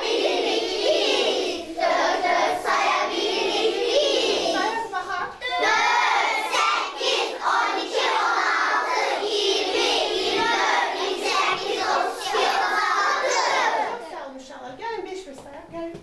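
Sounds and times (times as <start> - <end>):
children singing in unison: 0.0 - 14.1.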